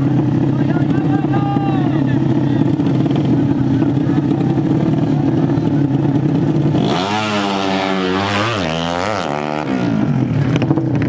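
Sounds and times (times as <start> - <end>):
motorcycle accelerating: 0.0 - 11.0
other motorcycle engines running: 0.0 - 11.0.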